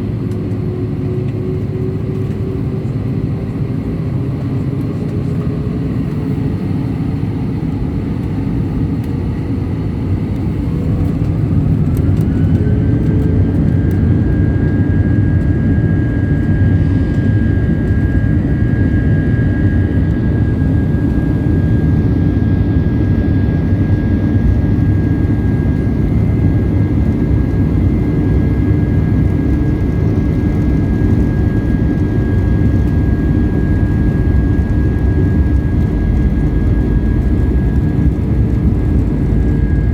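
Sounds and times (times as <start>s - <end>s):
jet engine whine and rumble: 0.0s - 39.9s.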